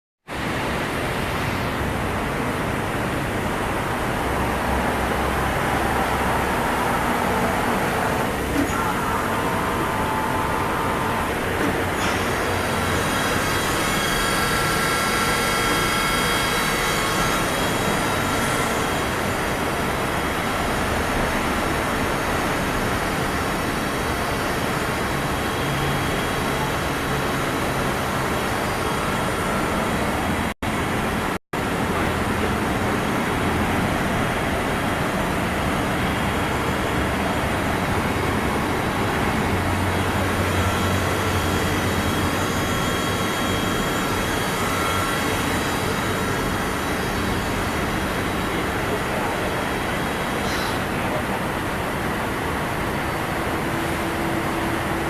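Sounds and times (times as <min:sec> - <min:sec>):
machining center whirring: 0:00.3 - 0:55.0.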